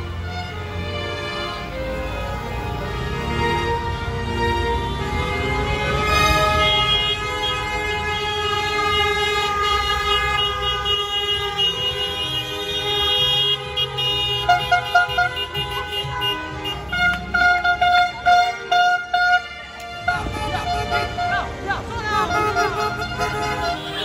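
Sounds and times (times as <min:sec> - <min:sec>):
rumble of passing cars: 0:00.0 - 0:24.0
car horns honking: 0:01.6 - 0:24.0.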